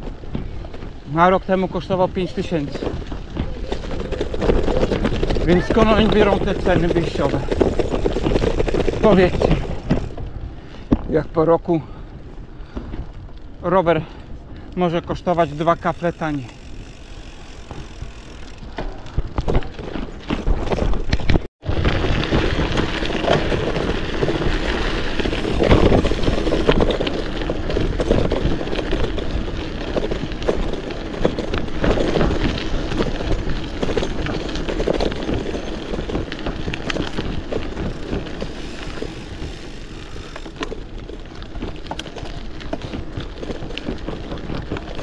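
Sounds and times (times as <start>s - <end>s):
bicycle tyre rumble and rattle: 0.0s - 45.0s.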